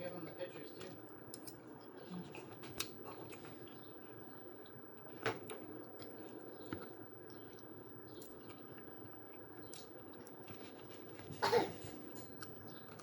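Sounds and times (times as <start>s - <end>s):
person chewing food: 1.3s - 13.0s.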